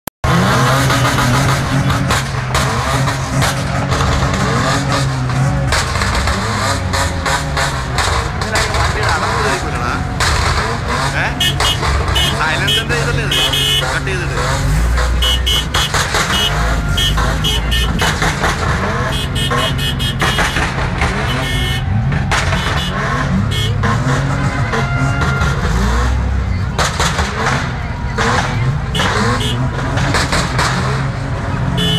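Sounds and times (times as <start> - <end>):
car engines revving: 0.2 - 31.9
voices: 3.4 - 30.9.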